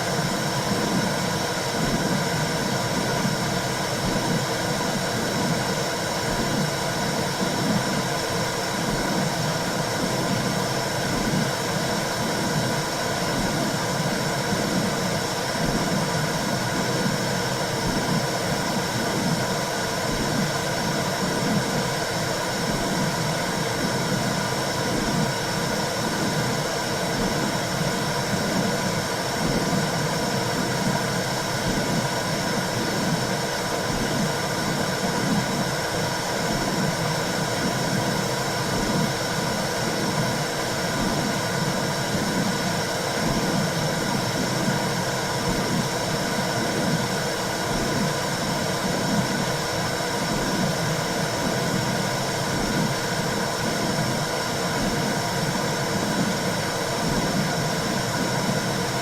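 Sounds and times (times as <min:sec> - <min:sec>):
rushing white noise hiss: 0:00.0 - 0:59.0.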